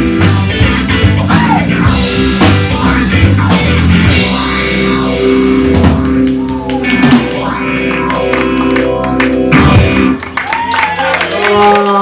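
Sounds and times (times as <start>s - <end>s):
drum kit: 0.0s - 10.7s
electric guitar: 0.0s - 11.9s.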